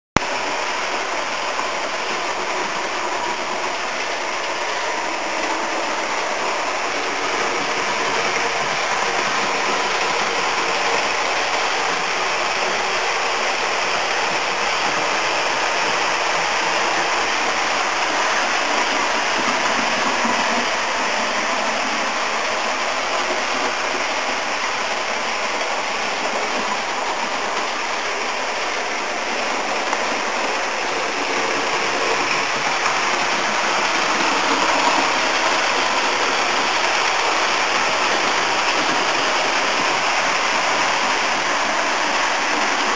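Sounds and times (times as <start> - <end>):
model train wheels rolling: 0.2 - 42.9.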